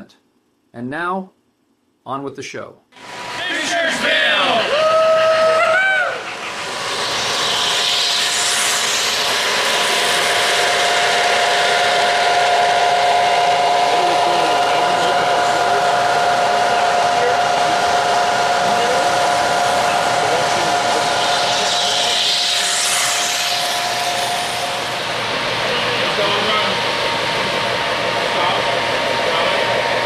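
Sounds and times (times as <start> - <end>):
model train rolling and whirring: 3.0 - 30.0
steady hum: 3.0 - 30.0.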